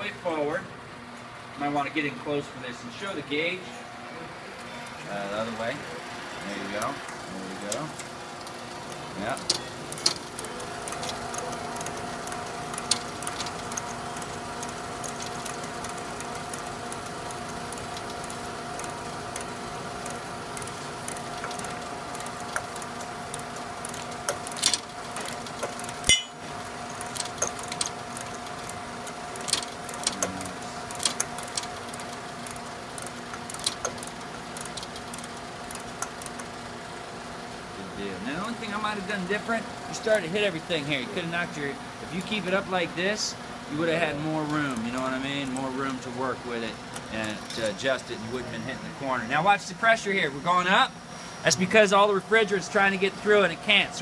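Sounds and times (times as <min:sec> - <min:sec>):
compressor humming: 0:00.0 - 0:54.0.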